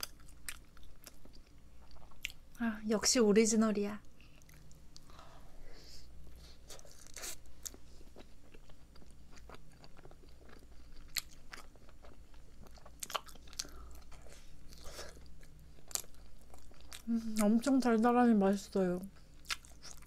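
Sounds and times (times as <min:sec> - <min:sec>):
quiet chewing: 0:00.0 - 0:02.5, 0:04.1 - 0:05.4, 0:06.3 - 0:17.8, 0:19.1 - 0:20.0.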